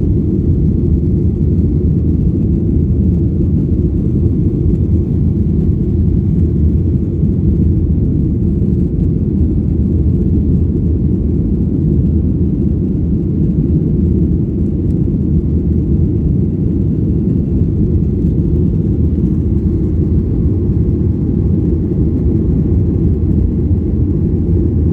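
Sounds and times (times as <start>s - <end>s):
airliner cabin engine rumble: 0.0s - 24.9s.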